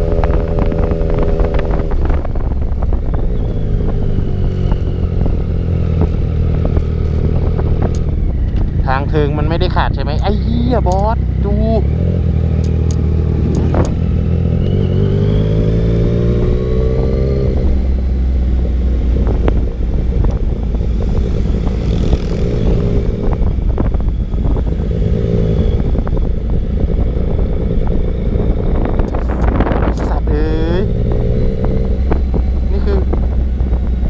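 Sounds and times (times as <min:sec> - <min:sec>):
motorcycle engine accelerating: 0:00.0 - 0:34.0
wind rushing: 0:00.0 - 0:34.0.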